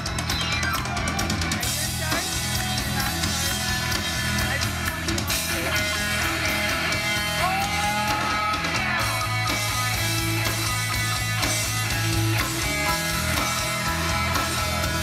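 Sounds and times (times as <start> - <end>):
drum kit with cymbal hits: 0.0 - 15.0
electric guitar: 0.0 - 15.0
sustained bass line: 0.0 - 15.0.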